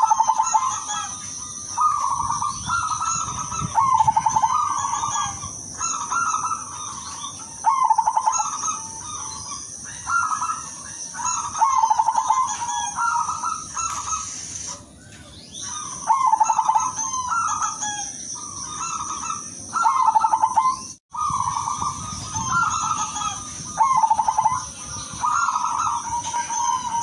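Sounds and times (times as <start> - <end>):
dove cooing: 0.0 - 14.3, 15.6 - 27.0.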